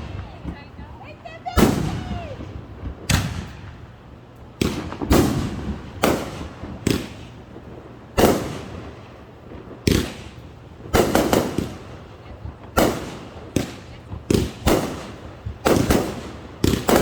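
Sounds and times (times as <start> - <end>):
fireworks bangs with echo: 0.0 - 17.0.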